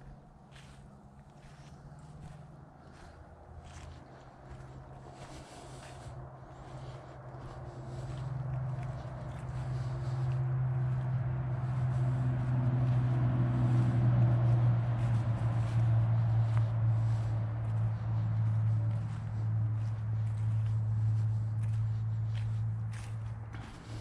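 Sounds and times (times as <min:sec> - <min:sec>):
footsteps on dry leaves: 0:00.0 - 0:24.0
low steady hum: 0:00.0 - 0:24.0.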